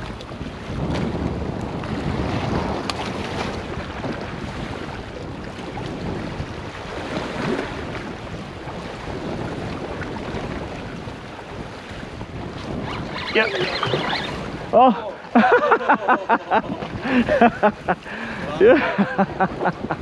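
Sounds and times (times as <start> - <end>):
sea water washing against rocks: 0.0 - 20.0
wind rumbling on microphone: 0.0 - 20.0.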